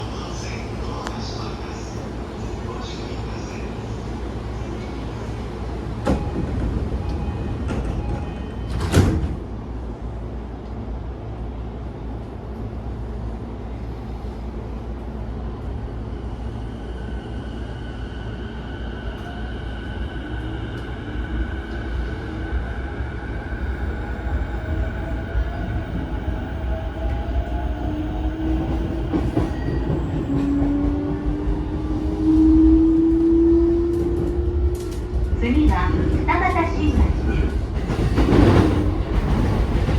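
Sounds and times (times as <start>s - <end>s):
train low rumble: 0.0s - 39.9s.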